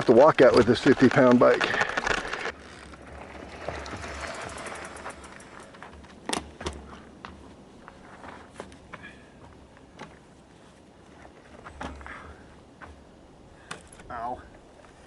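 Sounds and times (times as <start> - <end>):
bike tyres on dirt trail: 0.0 - 14.0
bike knocking and rattling: 0.0 - 14.2.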